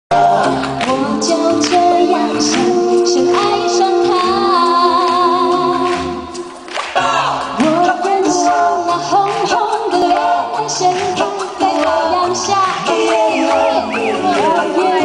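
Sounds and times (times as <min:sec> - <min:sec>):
woman singing into microphone: 0:00.1 - 0:06.4, 0:07.6 - 0:15.0
musical accompaniment: 0:00.1 - 0:15.0.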